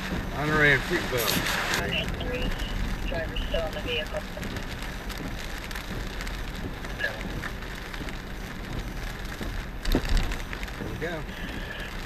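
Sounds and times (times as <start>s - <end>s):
heavy rain on car windshield: 0.0s - 12.0s
raindrop ticks: 0.0s - 12.0s
tyres rumbling on wet road: 0.0s - 12.0s.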